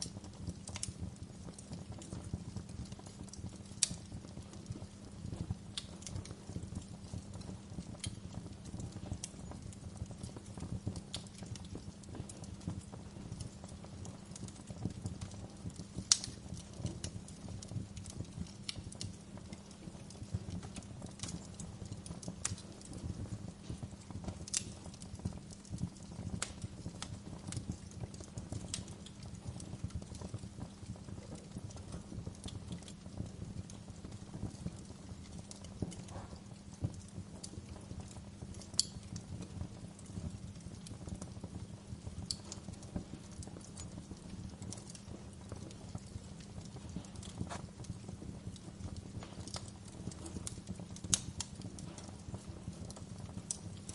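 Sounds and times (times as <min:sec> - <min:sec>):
fire popping and snapping: 0:00.0 - 0:53.9
flames rumbling: 0:00.0 - 0:53.9.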